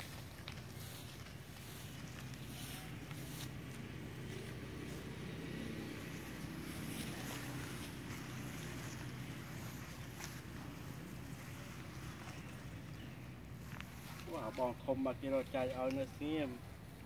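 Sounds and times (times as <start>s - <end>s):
faint rustles: 0.0s - 14.9s.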